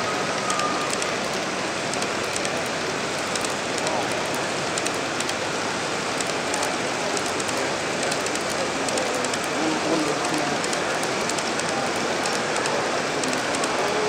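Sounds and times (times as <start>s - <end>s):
crowd murmur: 0.0s - 14.0s
model train cars clicking: 0.0s - 14.0s.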